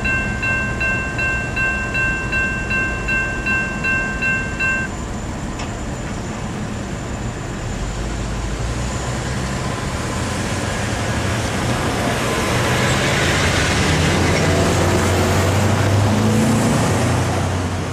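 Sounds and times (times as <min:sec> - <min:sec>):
car and truck engines: 0:00.0 - 0:17.9.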